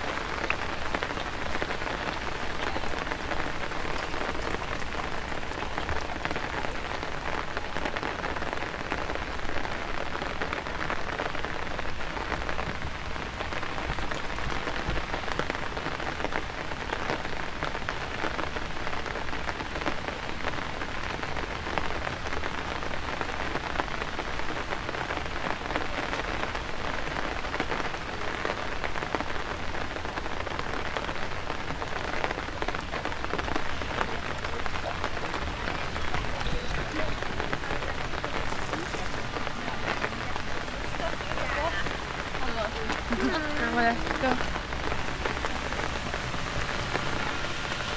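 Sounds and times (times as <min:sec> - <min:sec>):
raindrop ticks: 0:00.0 - 0:47.9
steady rain hiss: 0:00.0 - 0:47.9.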